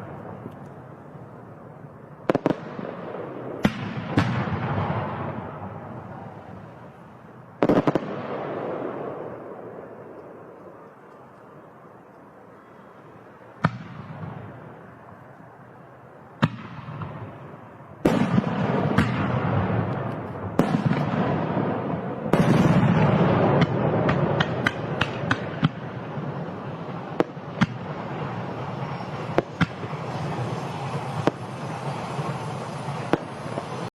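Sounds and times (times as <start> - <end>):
fireworks bangs: 0.0 - 10.9, 13.5 - 15.0, 16.4 - 33.9
fireworks crackling hiss: 0.0 - 33.9.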